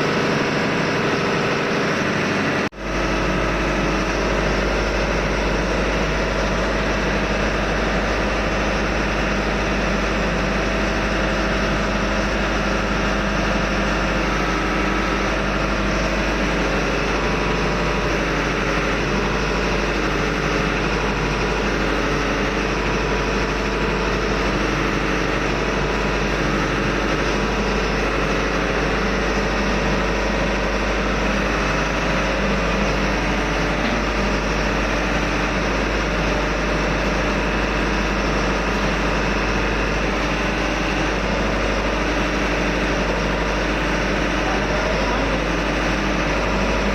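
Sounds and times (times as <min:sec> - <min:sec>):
ship diesel engine drone: 0:00.0 - 0:46.9.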